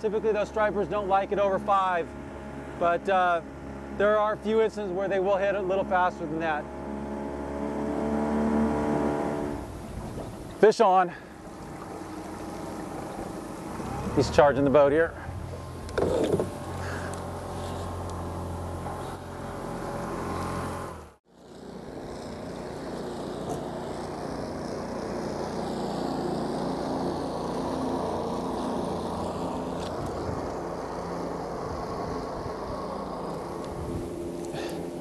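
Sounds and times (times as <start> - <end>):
outboard motor running: 0.0 - 35.0.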